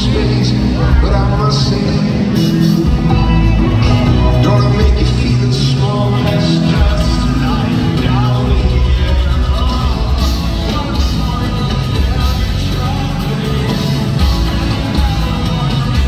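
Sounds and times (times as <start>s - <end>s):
live rock band playing: 0.0s - 16.0s
man singing: 0.0s - 16.0s.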